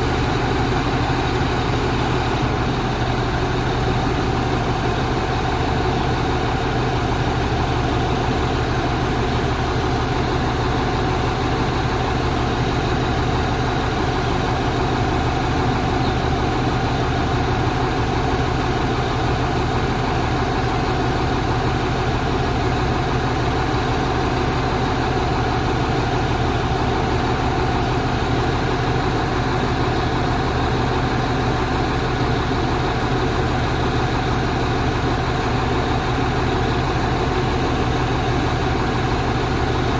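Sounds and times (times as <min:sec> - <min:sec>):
truck engine humming: 0:00.0 - 0:39.9.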